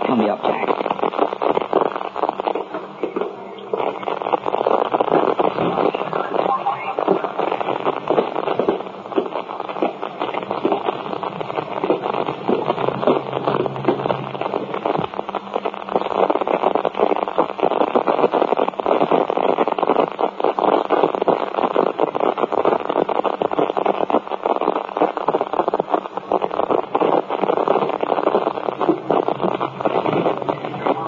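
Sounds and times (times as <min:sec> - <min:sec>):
crackling radio static: 0:00.0 - 0:31.0.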